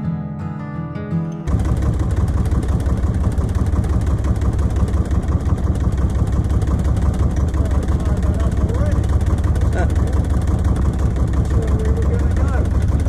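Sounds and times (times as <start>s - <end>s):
acoustic guitar music: 0.0s - 13.0s
small boat engine running: 1.5s - 13.0s.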